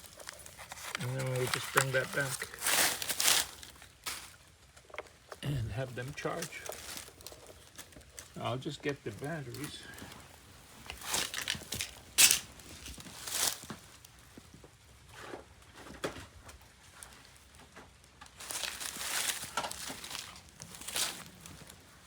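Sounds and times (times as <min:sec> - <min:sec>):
rustling: 0:00.0 - 0:14.3, 0:18.2 - 0:22.0.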